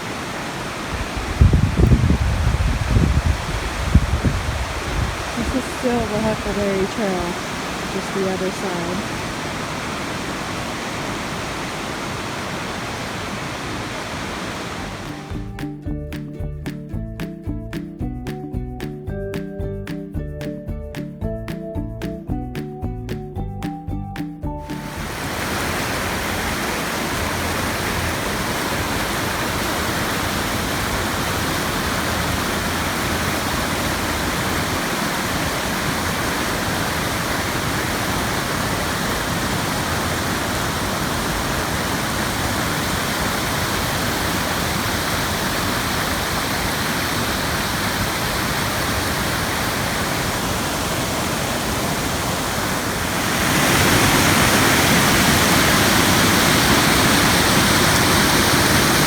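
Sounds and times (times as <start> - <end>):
waterfall pouring: 0.0 - 15.5, 24.7 - 59.0.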